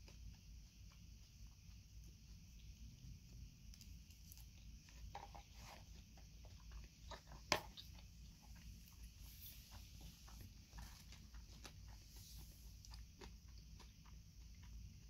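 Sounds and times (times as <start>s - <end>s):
chewing salad: 0.0s - 15.0s.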